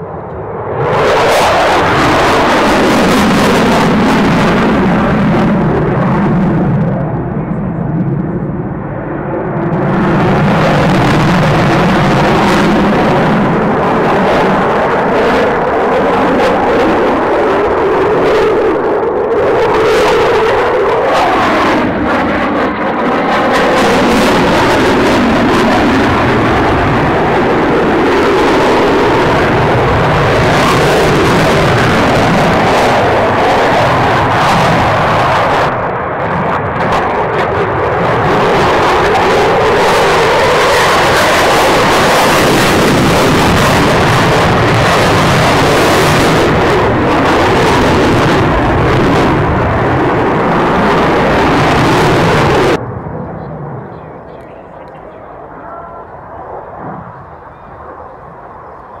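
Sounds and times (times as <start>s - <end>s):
fighter jet engine noise: 0.0s - 59.0s.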